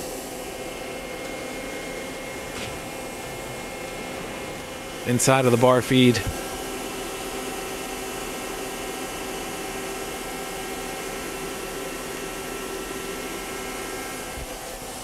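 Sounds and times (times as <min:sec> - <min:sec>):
machine humming and hissing: 0:00.0 - 0:15.0.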